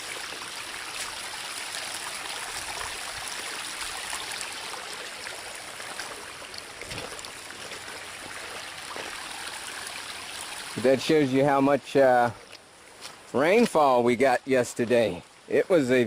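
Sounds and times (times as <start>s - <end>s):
rainwater runoff rushing: 0.0s - 16.0s.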